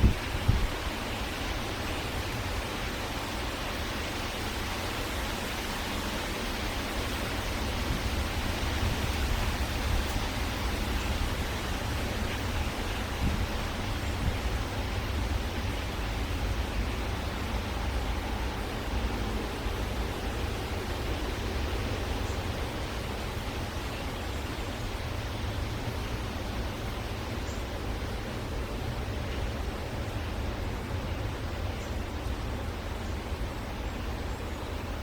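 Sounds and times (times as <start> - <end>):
steady rushing hiss: 0.0 - 35.0.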